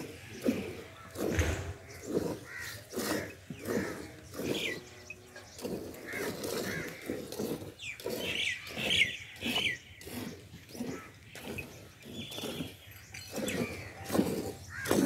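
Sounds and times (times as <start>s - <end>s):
birds chirping: 0.0s - 15.0s
milk squirting into metal pail: 0.0s - 15.0s.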